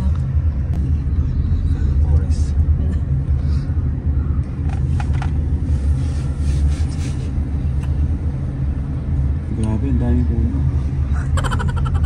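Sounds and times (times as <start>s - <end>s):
car cabin low rumble: 0.0s - 12.0s.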